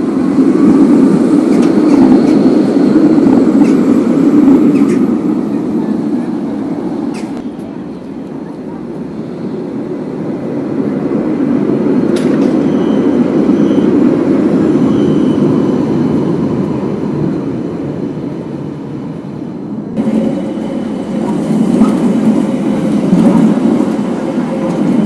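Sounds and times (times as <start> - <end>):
tram wheels rumbling on rail: 0.0 - 25.0.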